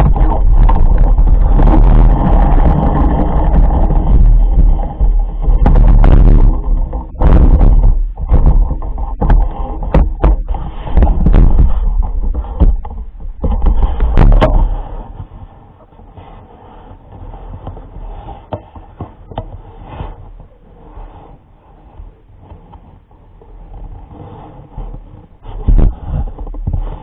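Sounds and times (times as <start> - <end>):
knocks and scrapes: 0.0 - 27.0
low rumbling: 0.0 - 27.0.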